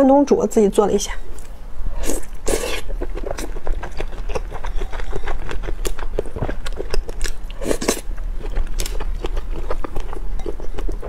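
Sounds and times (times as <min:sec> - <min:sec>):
chewing and mouth sounds: 0:01.4 - 0:11.0.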